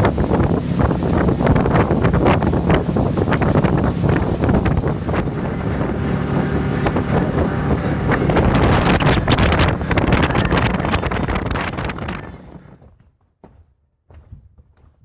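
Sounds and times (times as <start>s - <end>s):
ferry engine running: 0.0s - 12.8s
wind buffeting microphone: 0.0s - 12.8s.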